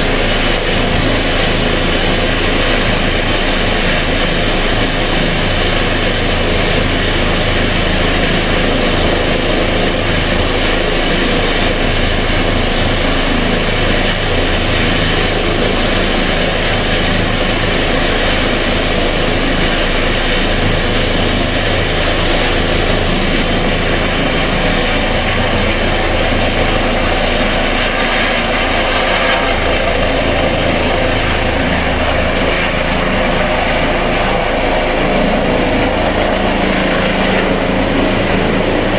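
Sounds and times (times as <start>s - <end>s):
helicopter engine and rotor noise: 0.0s - 38.9s
high turbine whine: 0.0s - 38.9s.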